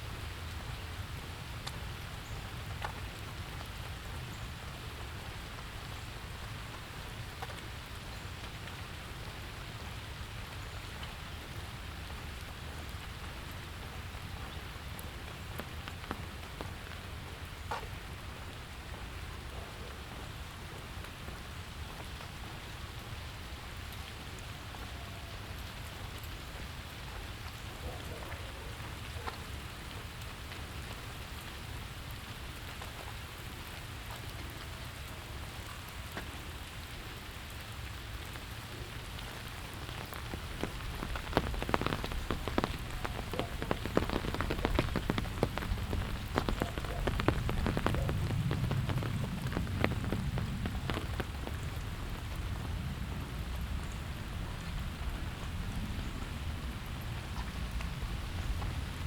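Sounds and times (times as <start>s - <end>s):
rain pattering on surfaces: 0.0s - 59.0s.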